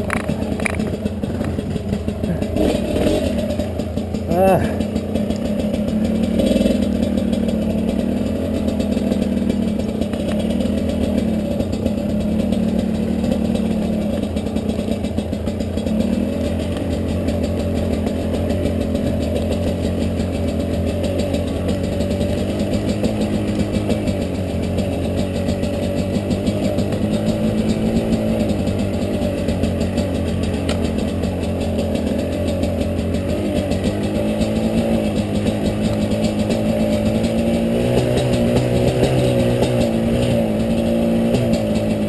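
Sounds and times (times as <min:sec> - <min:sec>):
dirt bike engine running: 0:00.0 - 0:42.0.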